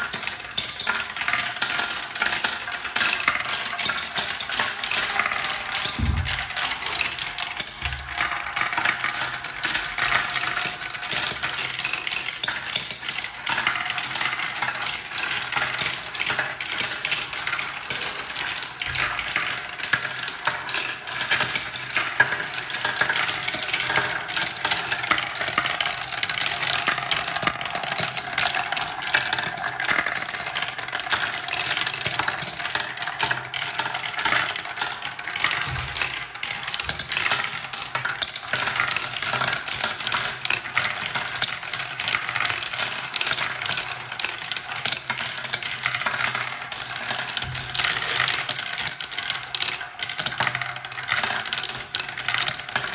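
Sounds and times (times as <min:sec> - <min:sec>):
glass marbles rattling through plastic run: 0:00.0 - 0:52.9.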